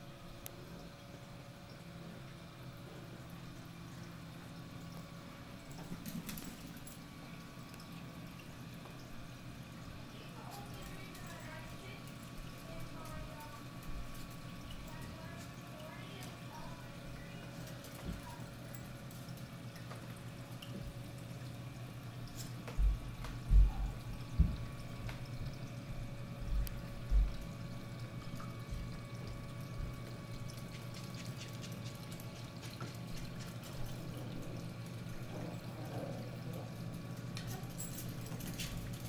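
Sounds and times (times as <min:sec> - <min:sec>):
aquarium pump hum: 0:00.0 - 0:39.0
water trickling and splashing: 0:00.0 - 0:39.0.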